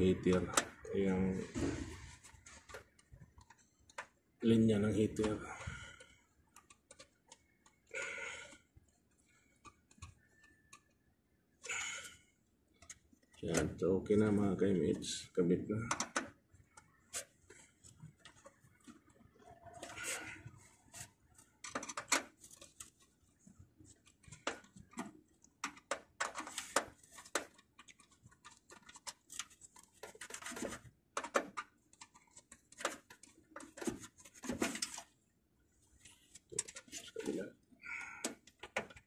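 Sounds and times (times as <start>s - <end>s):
screwdriver and hands clicking on wires: 0.0s - 39.0s.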